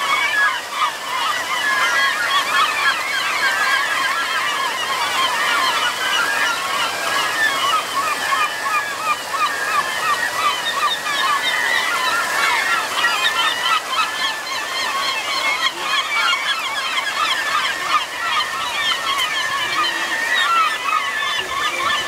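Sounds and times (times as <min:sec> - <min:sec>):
gulls calling: 0:00.0 - 0:22.0
water rushing through stream: 0:00.0 - 0:22.0.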